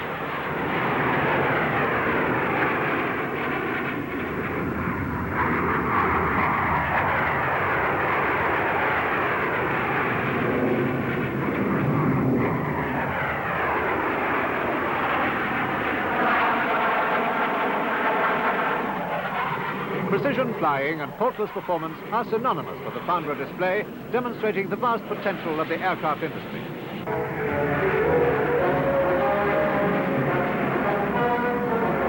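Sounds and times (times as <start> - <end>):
jet aircraft roaring past: 0.0 - 32.0.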